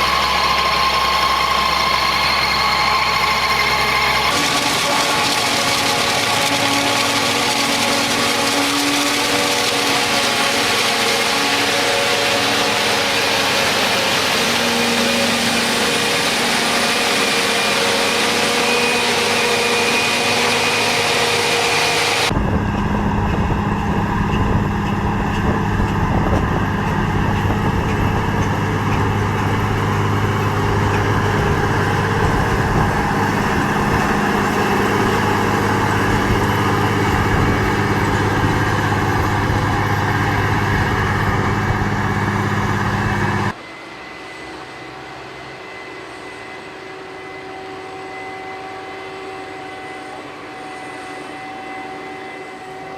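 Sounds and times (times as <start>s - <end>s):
farm machinery engines running: 0.0s - 43.6s
machine deep drone: 0.0s - 43.6s.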